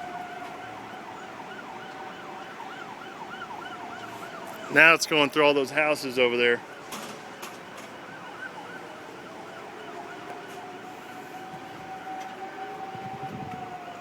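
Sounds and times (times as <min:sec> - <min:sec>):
fast wavering siren: 0:00.0 - 0:05.4, 0:06.2 - 0:14.0
siren wailing: 0:00.0 - 0:14.0.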